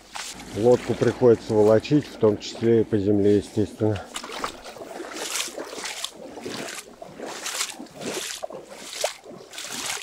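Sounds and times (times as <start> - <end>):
footsteps wading through water: 0.0 - 10.0.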